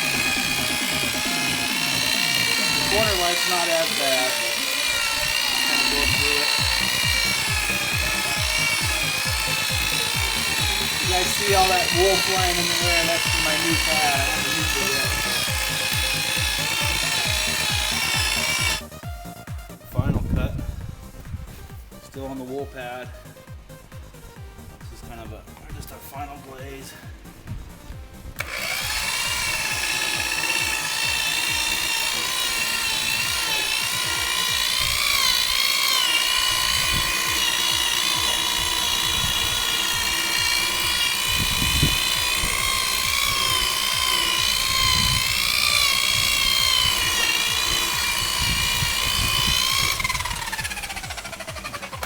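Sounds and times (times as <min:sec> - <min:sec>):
rotary buffer motor whine: 0:00.0 - 0:18.9, 0:28.4 - 0:52.0.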